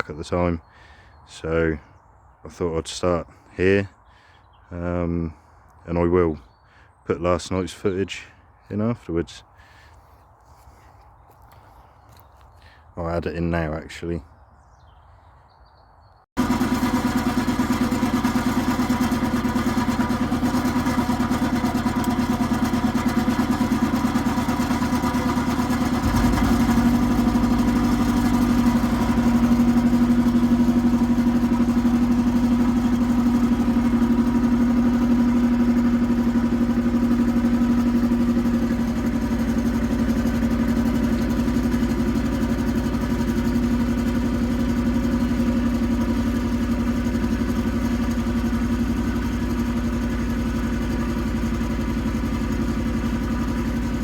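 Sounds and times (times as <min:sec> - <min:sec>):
tractor diesel engine running: 0:06.6 - 0:13.2, 0:16.4 - 0:54.0.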